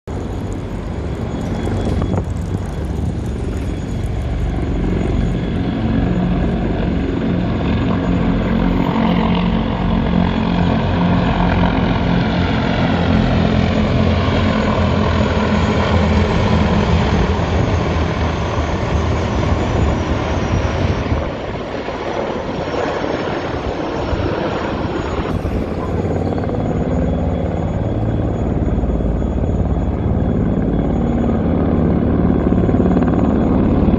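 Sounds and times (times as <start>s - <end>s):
helicopters flying overhead: 0.1s - 33.9s.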